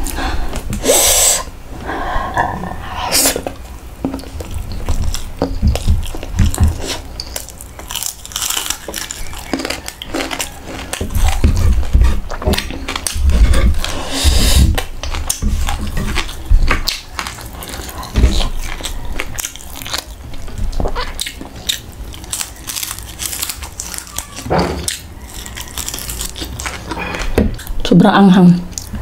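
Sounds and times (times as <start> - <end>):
chewing crispy fried fish: 3.3 - 29.0.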